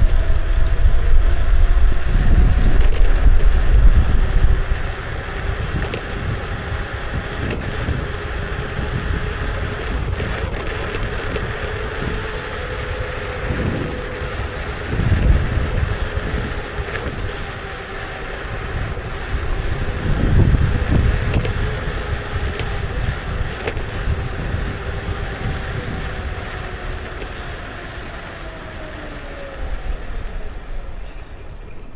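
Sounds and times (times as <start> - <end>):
electric scooter motor whine: 0.0 - 31.9
tyre and road noise: 0.0 - 31.9
wind buffeting microphone: 0.0 - 31.9.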